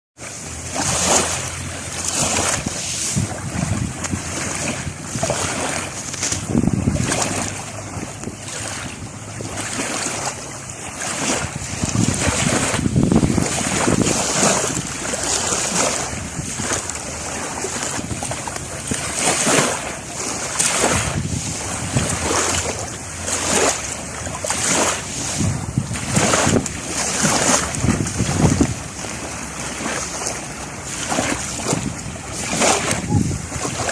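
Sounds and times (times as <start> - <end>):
sea waves breaking: 0.2 - 33.9
wind gusting on microphone: 0.3 - 33.9.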